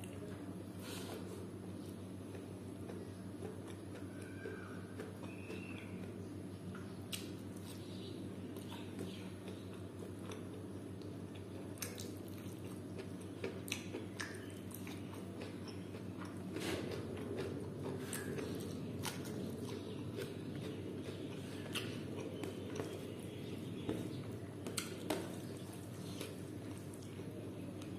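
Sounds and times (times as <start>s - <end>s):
steady low hum: 0.0s - 27.9s
person chewing food: 0.8s - 27.9s.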